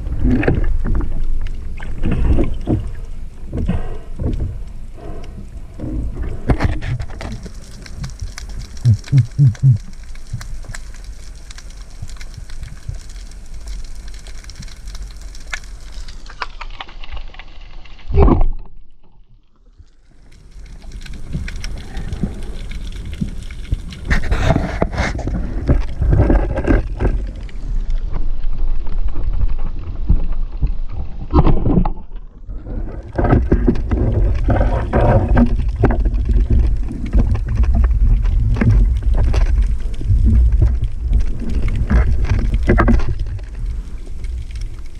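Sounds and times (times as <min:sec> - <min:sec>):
muffled underwater rushing: 0:00.0 - 0:16.3, 0:20.1 - 0:44.9.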